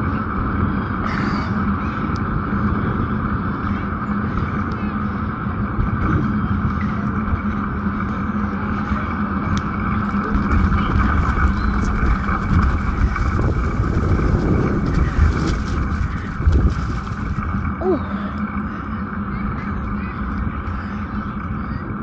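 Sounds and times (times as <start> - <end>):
bicycle tyres on dirt road: 0.0 - 22.0
wind on microphone: 0.0 - 22.0.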